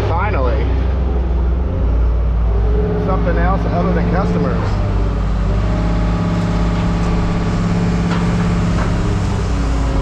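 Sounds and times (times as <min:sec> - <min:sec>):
engine low drone: 0:00.0 - 0:10.0.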